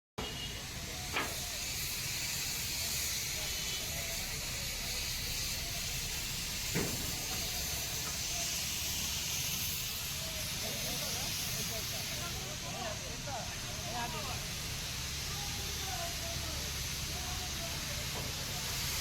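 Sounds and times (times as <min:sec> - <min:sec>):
steady hissing noise: 0:00.2 - 0:19.0.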